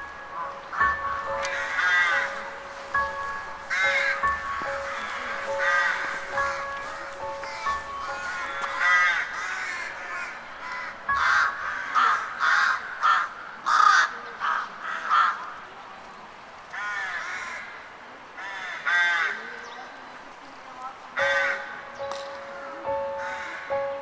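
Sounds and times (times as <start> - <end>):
crow cawing: 0.4 - 15.6, 16.7 - 19.5, 21.2 - 24.0.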